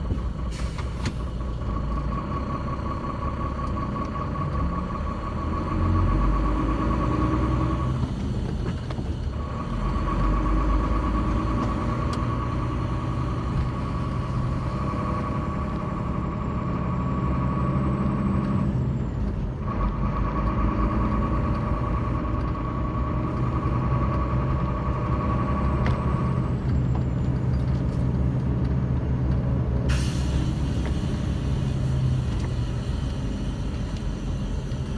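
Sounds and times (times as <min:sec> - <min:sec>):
vehicle engine drone: 0:00.0 - 0:34.9.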